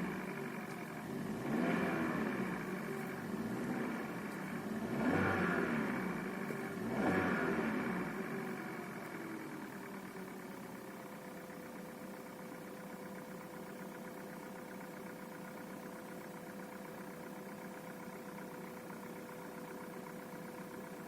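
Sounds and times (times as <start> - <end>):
car engine idling: 0.0 - 21.0
engine knocking: 0.1 - 21.0.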